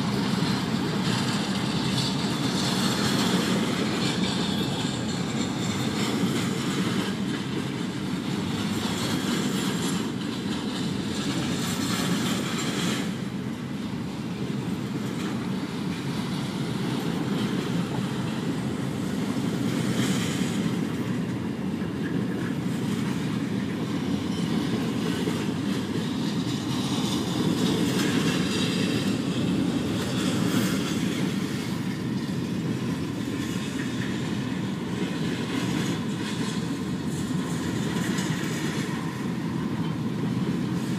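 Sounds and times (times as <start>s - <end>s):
freight train rolling past: 0.0s - 40.9s
wheels clacking over rail joints: 0.0s - 40.9s.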